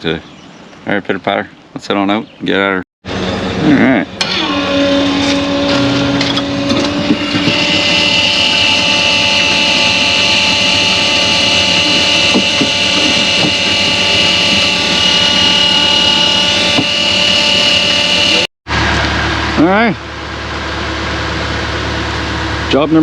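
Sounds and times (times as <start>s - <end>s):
constant whine: 0.0s - 23.0s
engine running steadily: 3.1s - 23.0s.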